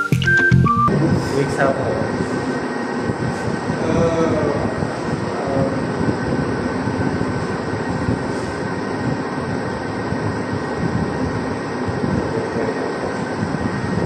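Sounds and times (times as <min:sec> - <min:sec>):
noisy rumble: 0:00.0 - 0:14.0.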